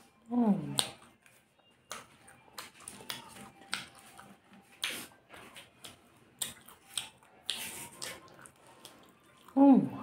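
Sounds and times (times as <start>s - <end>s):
person chewing with mouth clicks: 0.0s - 10.0s.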